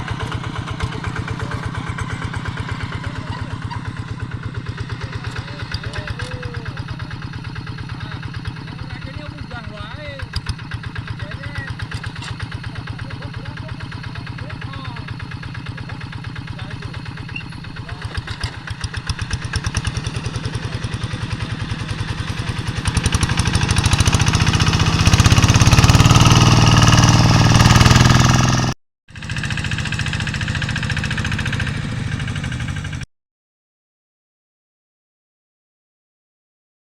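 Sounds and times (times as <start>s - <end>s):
diesel engine pulsing: 0.0s - 33.1s.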